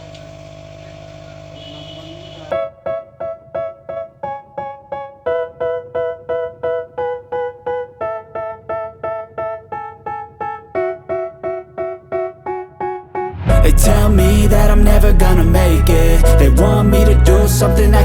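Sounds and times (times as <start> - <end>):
piano chords repeating: 2.5 - 18.0.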